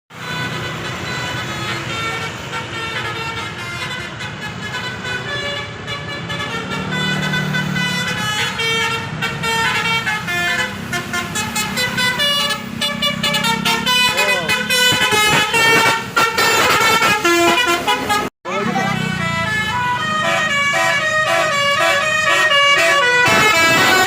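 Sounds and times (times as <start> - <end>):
melodic bus air horns: 0.1 - 24.0.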